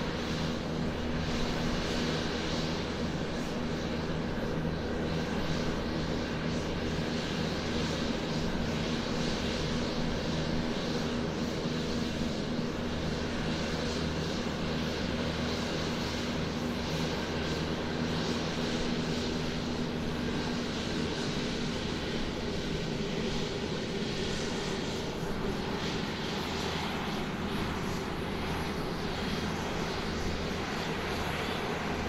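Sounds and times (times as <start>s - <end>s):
airplane engine taxiing: 0.0s - 32.0s.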